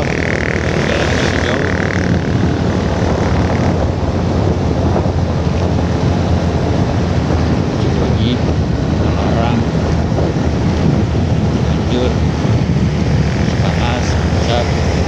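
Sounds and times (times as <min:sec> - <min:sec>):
motorcycle engine drone: 0:00.0 - 0:15.0
wind rush on microphone: 0:00.0 - 0:15.0.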